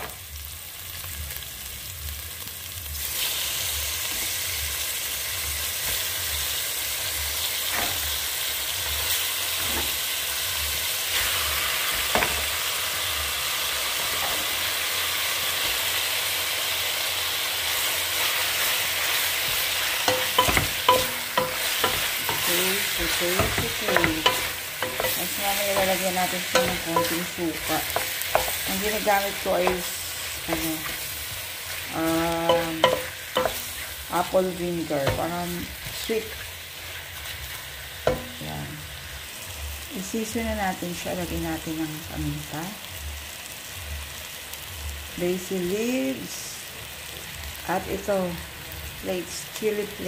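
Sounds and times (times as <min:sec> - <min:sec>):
squid sizzling in hot oil: 0:00.0 - 0:50.0.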